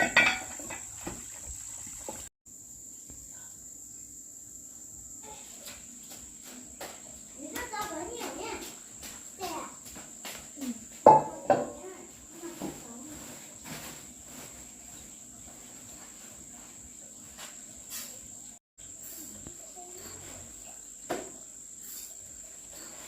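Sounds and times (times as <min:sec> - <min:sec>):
high-pitched insect trill: 0:00.0 - 0:12.6, 0:13.2 - 0:23.0.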